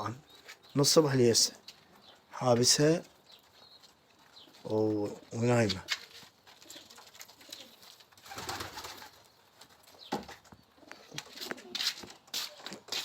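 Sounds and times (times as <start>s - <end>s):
pigeons cooing softly: 0.0s - 12.8s.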